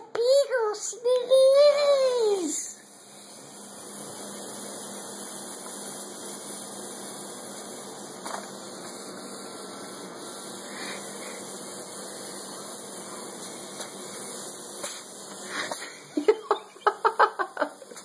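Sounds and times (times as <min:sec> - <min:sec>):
background hiss and hum: 0:00.0 - 0:18.0.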